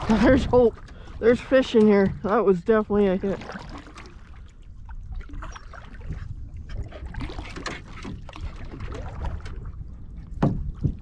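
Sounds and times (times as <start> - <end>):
water lapping against canoe hull: 0.0 - 11.0.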